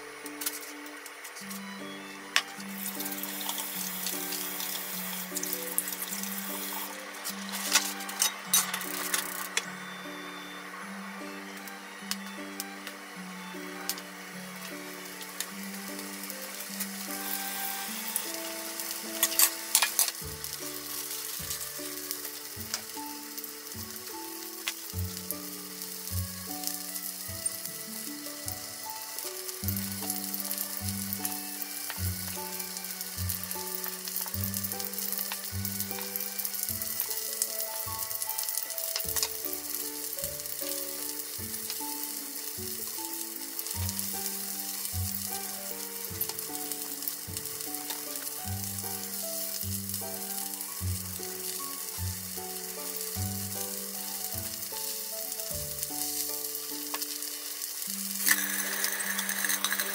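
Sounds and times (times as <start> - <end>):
background music: 0.0 - 59.9
patties sizzling in oil: 0.0 - 59.9.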